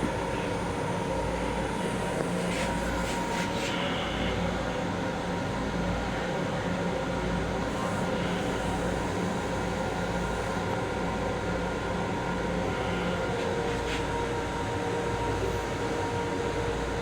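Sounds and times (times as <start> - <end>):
electric railcar rumble and hum: 0.0 - 6.8, 7.5 - 17.0.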